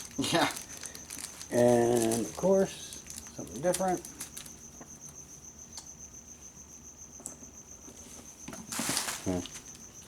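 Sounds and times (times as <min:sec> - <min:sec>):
cricket trilling: 0:00.0 - 0:10.0.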